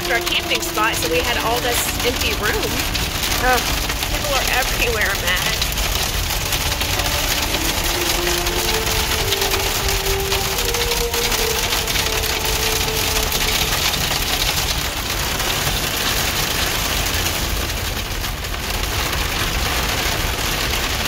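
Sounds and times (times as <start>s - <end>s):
car engine running: 0.0s - 19.6s
rain and hail on car roof: 0.0s - 21.0s.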